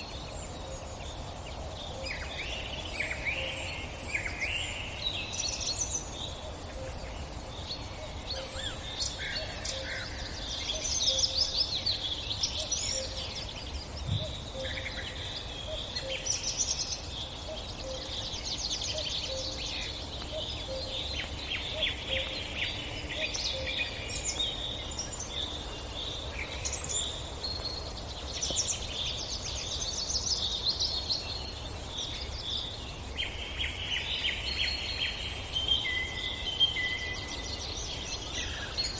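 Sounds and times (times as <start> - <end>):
wild birds calling and chirping: 0.0 - 38.9.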